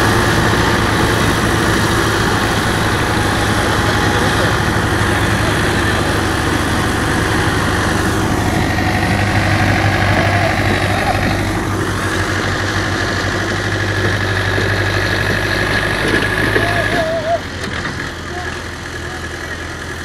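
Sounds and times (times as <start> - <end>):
heavy machinery engine idling: 0.0 - 20.0.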